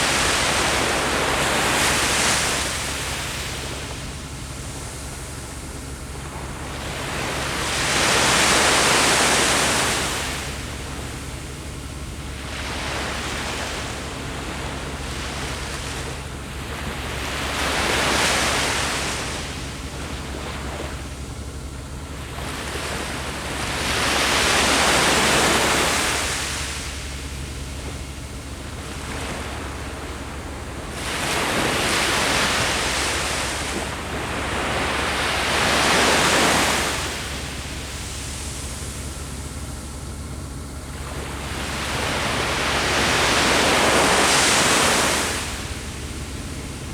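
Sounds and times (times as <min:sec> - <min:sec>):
steady low surf rumble: 0:00.0 - 0:46.9
waves breaking on shore: 0:00.0 - 0:46.9.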